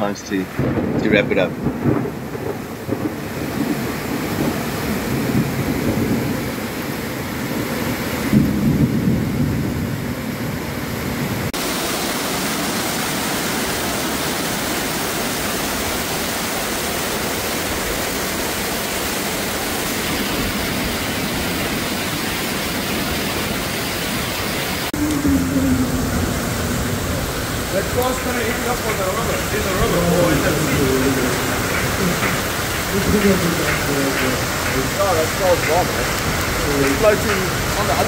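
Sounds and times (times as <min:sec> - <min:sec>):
rushing floodwater: 0:00.0 - 0:38.0
torrential rain: 0:00.0 - 0:38.0.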